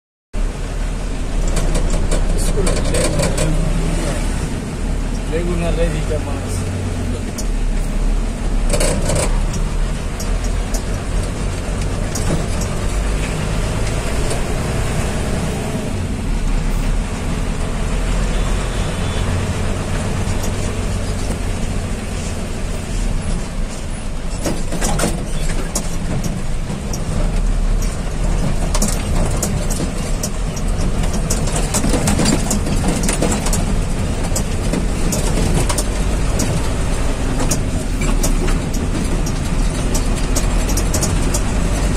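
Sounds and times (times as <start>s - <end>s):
road rumble: 0.4s - 41.9s
vehicle engine drone: 0.4s - 41.9s
sharp rattles and knocks: 1.3s - 3.9s, 7.2s - 15.7s, 19.4s - 41.9s.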